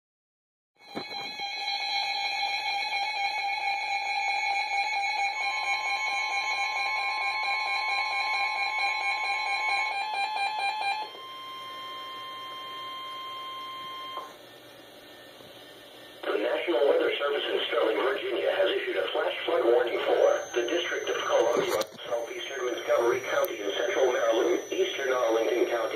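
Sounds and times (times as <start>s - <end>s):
buzzy electronic alarm tone: 0.8s - 25.9s
higher warning alarm tone: 0.8s - 25.9s.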